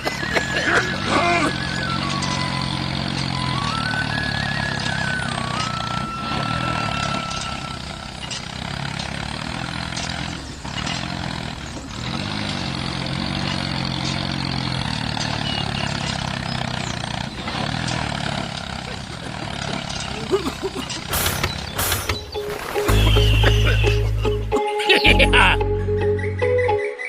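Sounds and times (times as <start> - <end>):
tractor engine running: 0.0 - 26.8.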